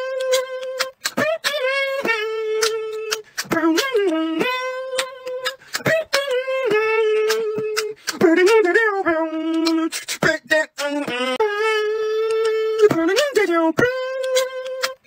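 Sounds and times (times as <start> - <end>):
beatboxing voice holding notes: 0.0 - 15.0
mouth percussion clicks and pops: 0.0 - 15.0.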